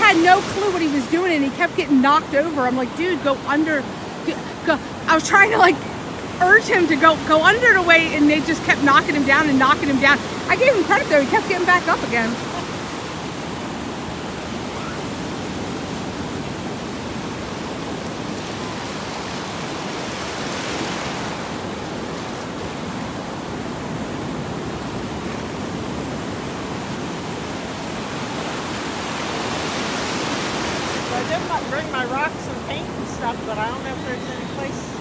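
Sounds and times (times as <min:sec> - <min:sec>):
waves breaking on shore: 0:00.0 - 0:35.0.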